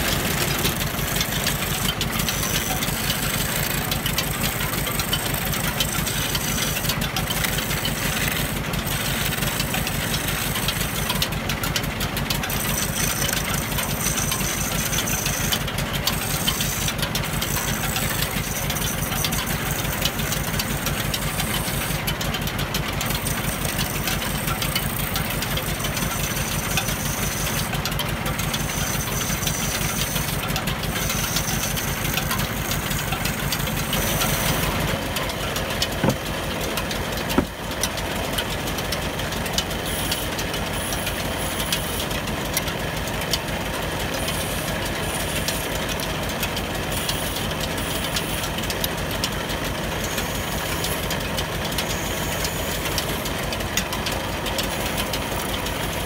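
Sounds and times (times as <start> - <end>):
chisel cutting spinning wood: 0.0 - 56.0
wood lathe running: 0.0 - 56.0.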